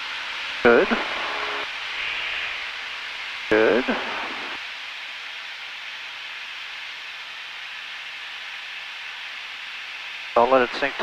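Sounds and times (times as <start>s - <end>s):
aircraft engine noise: 0.0s - 11.0s
airflow noise in cabin: 0.0s - 11.0s.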